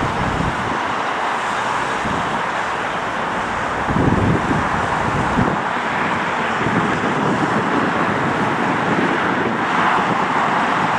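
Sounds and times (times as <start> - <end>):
jet engine roar: 0.0 - 10.9.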